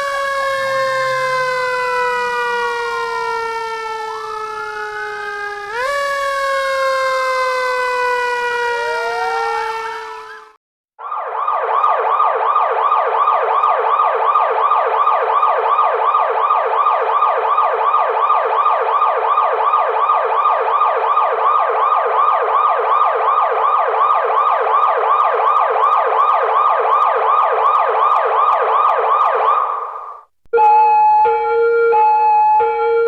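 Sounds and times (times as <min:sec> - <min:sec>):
siren yelping: 0:00.0 - 0:33.0.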